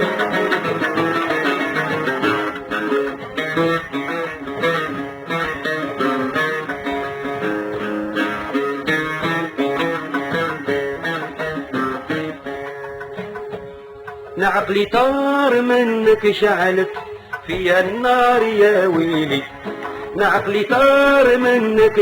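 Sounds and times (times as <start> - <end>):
plucked string melody: 0.0 - 22.0.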